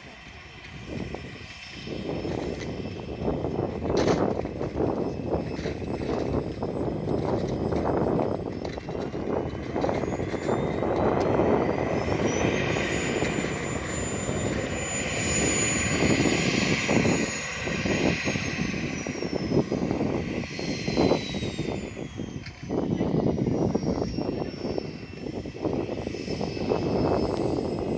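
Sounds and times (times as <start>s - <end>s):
small jet engine whining: 0.0s - 27.9s
wind buffeting microphone: 0.0s - 27.9s.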